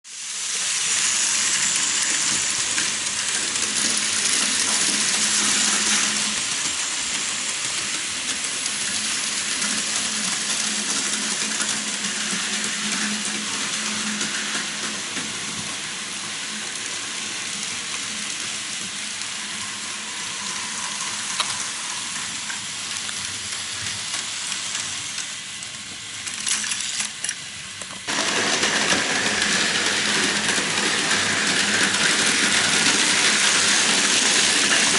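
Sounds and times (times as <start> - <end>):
toy trains rattling on track: 0.1 - 34.9.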